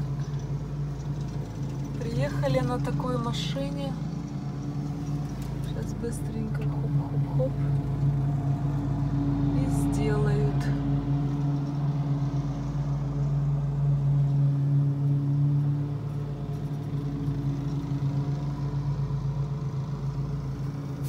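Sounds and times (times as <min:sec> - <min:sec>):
car engine hum: 0:00.0 - 0:21.0
low road rumble: 0:00.0 - 0:21.0.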